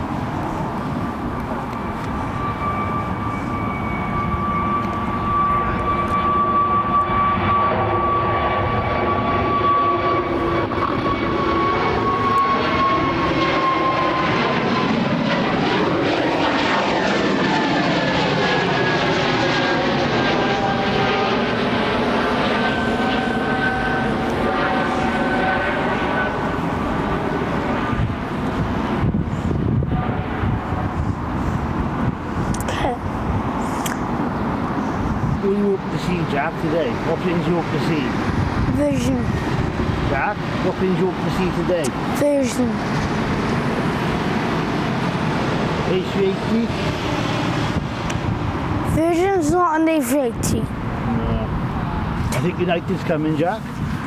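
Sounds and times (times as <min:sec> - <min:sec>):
jet airliner passing overhead: 0:00.0 - 0:54.0.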